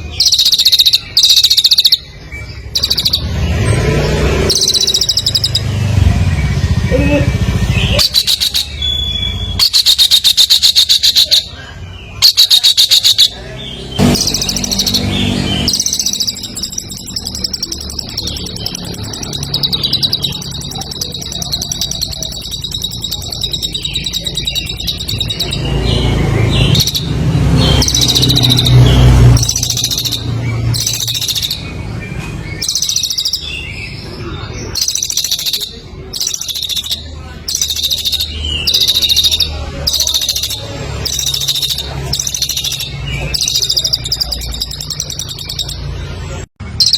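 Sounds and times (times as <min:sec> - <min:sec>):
songbird singing rattling chirps: 0:00.0 - 0:46.9.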